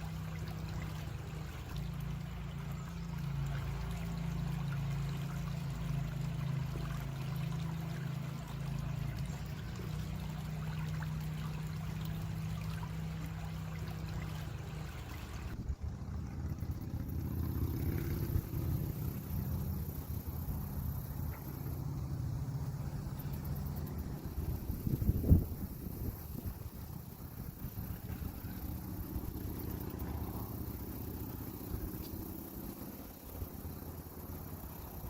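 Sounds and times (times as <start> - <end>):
creek water running: 0.0 - 35.0
low water rumble: 0.0 - 35.0.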